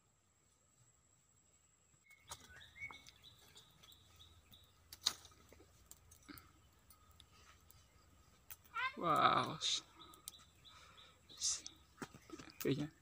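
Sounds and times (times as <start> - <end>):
faint high chirping: 1.9 - 13.0.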